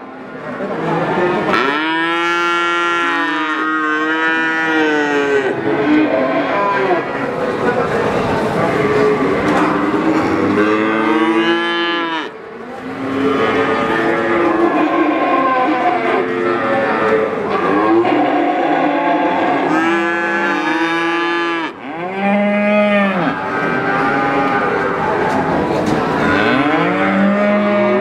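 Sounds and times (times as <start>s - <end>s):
cattle mooing: 1.6s - 7.1s, 8.7s - 25.1s, 26.2s - 28.0s.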